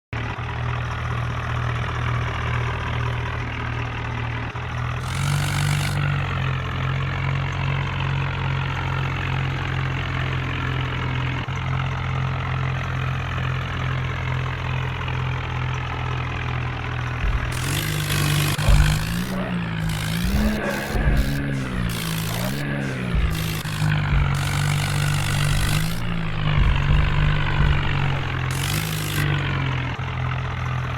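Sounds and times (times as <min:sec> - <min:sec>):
heavy diesel engine running: 0:00.2 - 0:30.9.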